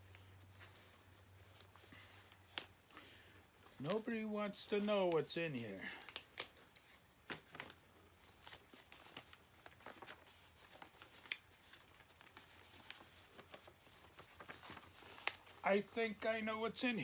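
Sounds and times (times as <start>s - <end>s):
packing tape rustling and tearing: 0.0s - 16.4s.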